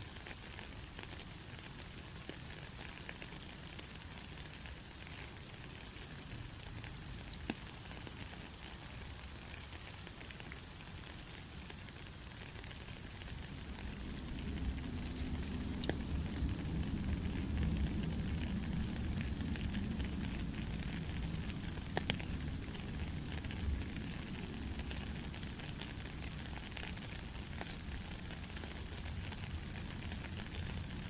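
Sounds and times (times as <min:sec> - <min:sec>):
steady white noise hiss: 0:00.0 - 0:31.0.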